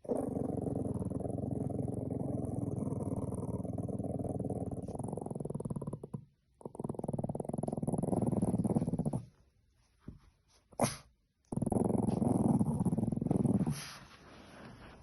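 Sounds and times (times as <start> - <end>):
puppy growling: 0.0 - 9.4, 10.8 - 15.0.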